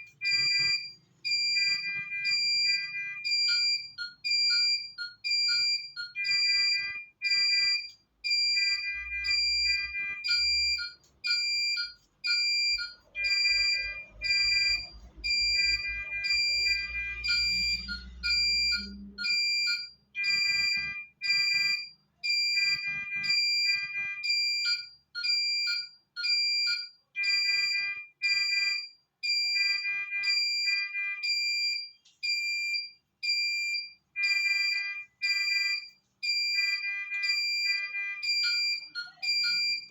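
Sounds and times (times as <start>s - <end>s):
electronic alarm beeping: 0.0s - 39.9s.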